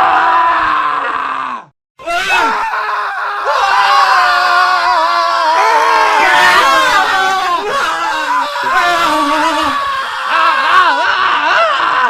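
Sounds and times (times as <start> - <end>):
men screaming: 0.0 - 12.0.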